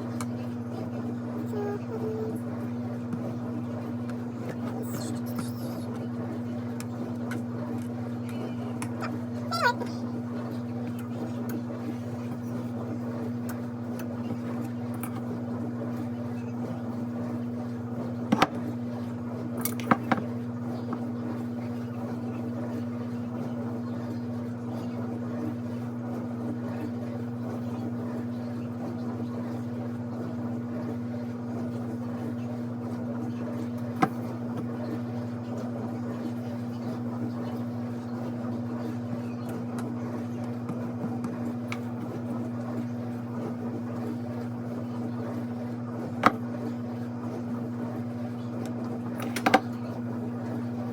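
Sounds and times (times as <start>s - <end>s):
appliance motor hum: 0.0s - 50.9s.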